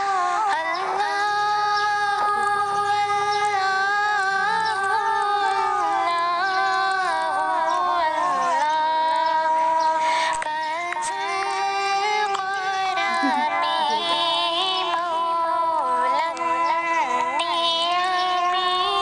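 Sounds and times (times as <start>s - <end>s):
woman singing slow melody: 0.0s - 19.0s.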